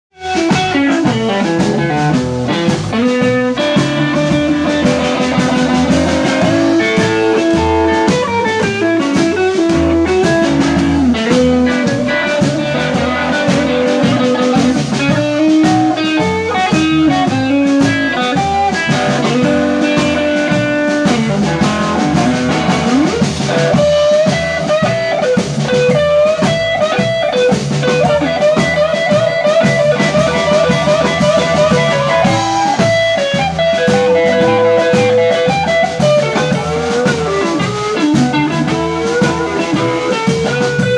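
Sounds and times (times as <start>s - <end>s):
drum kit: 0.1s - 40.9s
electric guitar: 0.1s - 40.9s
blues harmonica: 0.2s - 40.9s.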